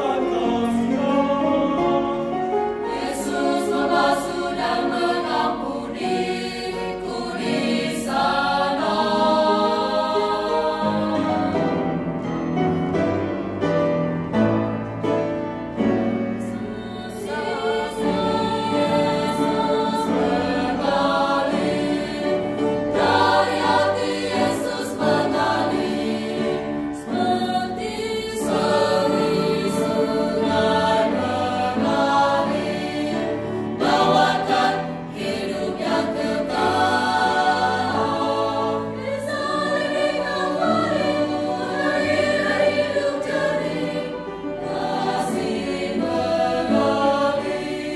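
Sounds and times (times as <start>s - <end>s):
mixed choir singing a hymn: 0.0s - 47.9s.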